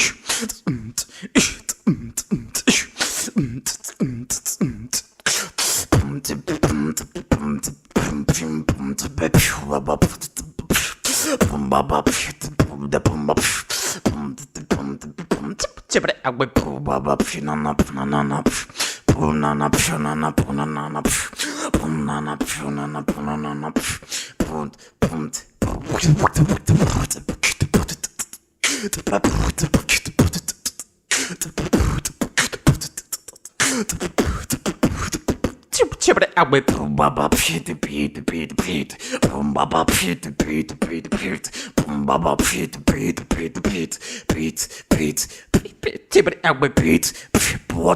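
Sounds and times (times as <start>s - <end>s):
vocal beatboxing: 0.0s - 47.9s.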